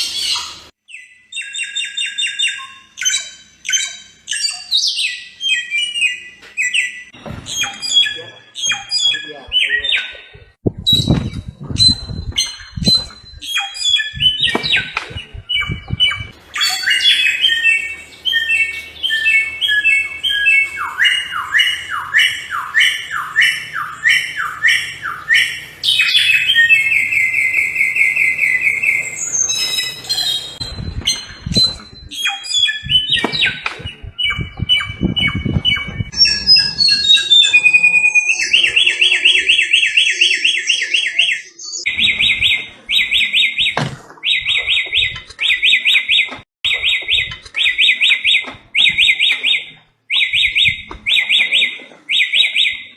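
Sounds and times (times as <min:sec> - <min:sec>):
songbird singing trills: 0:00.2 - 0:52.9.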